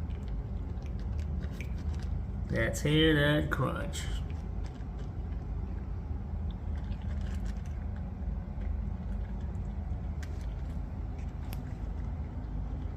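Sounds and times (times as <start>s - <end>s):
cat chewing and crunching food: 0.0s - 12.9s
heater rumbling: 0.0s - 12.9s.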